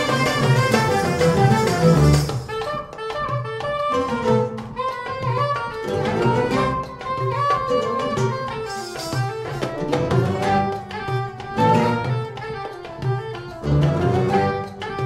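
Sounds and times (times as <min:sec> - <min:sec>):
ouds guitars and bowed strings: 0:00.0 - 0:02.7, 0:03.9 - 0:15.0
hand percussion steady beat: 0:00.0 - 0:15.0.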